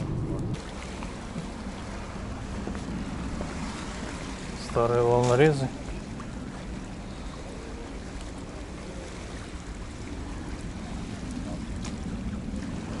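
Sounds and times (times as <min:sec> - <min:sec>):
sea lapping against concrete: 0:00.0 - 0:13.0
wind on microphone: 0:00.0 - 0:13.0.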